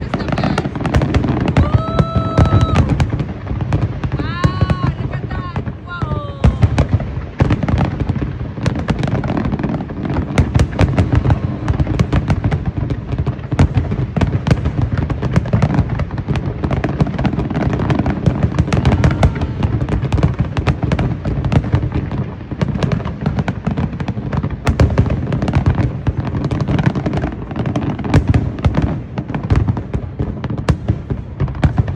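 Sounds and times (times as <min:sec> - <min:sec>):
fireworks banging and crackling: 0:00.0 - 0:31.9.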